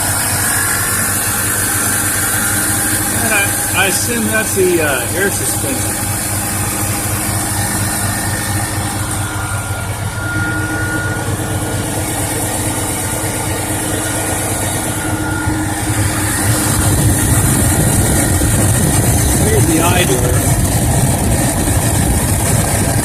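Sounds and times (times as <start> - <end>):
thin high compressor tone: 0.0 - 20.8
engine idling hum: 0.0 - 23.0.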